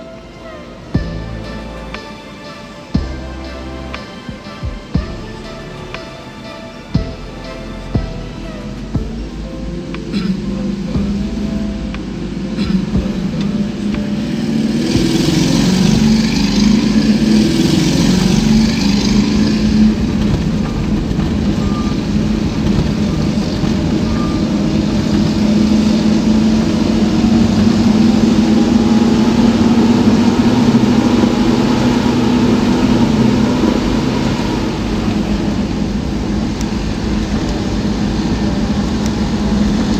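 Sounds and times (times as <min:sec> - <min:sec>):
vehicle engine running: 0:07.0 - 0:39.9.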